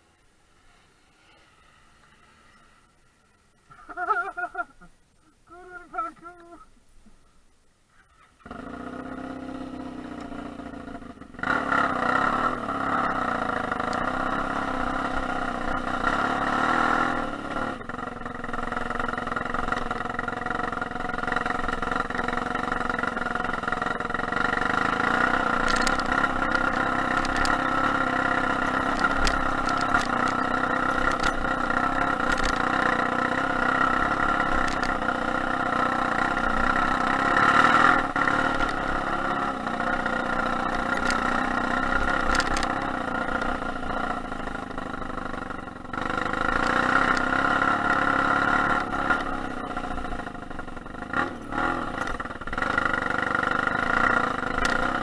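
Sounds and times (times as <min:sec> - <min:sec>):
motorcycle engine running: 0:08.4 - 0:55.0.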